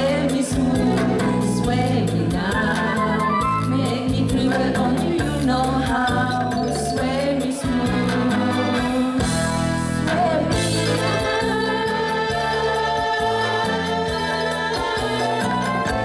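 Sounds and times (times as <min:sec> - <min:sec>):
women singing together: 0:00.0 - 0:09.4, 0:10.1 - 0:16.0
bass line: 0:00.0 - 0:16.0.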